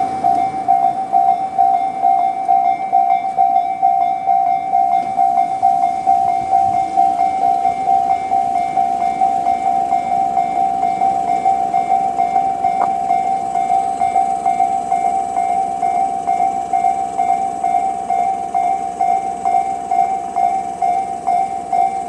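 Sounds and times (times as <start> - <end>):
level crossing warning bell: 0.0 - 22.0.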